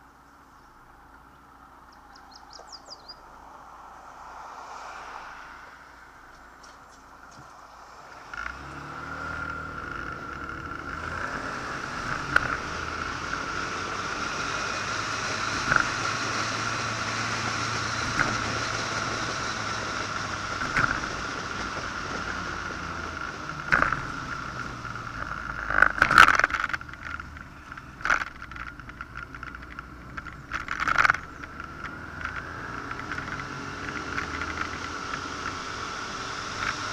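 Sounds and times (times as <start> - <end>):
motorcycle engine and road noise: 0.0 - 36.9.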